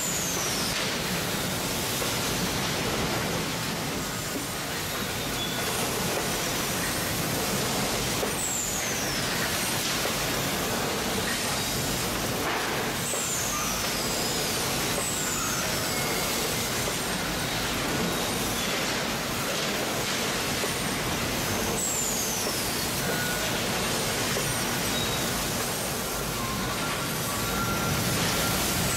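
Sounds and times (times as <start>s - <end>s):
packing machinery running: 0.0s - 28.9s.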